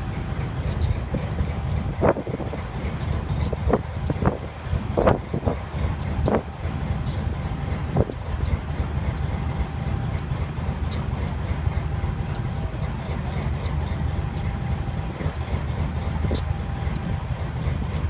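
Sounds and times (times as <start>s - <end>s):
diesel locomotive engine running: 0.0s - 18.0s.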